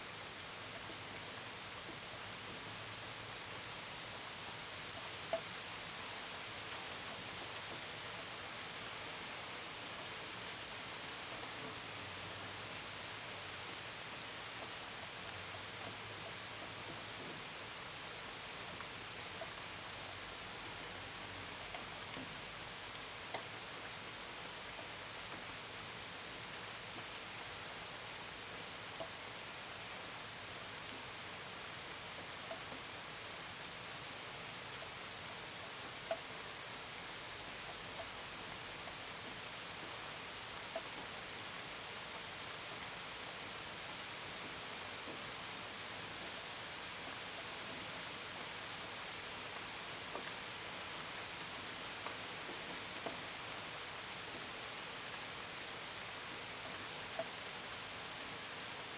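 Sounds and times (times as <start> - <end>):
gentle rain hiss: 0.0 - 58.9.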